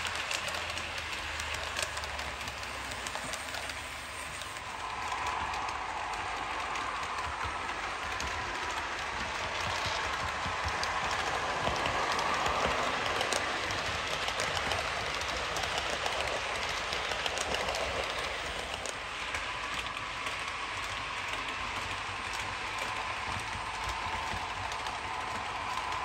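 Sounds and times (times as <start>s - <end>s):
model train wheels rolling: 0.0s - 26.0s.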